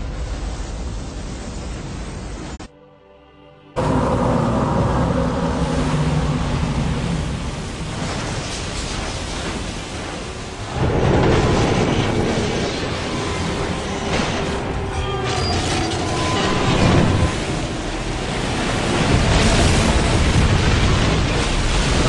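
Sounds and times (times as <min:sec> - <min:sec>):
roar of rushing water: 0:03.8 - 0:22.0.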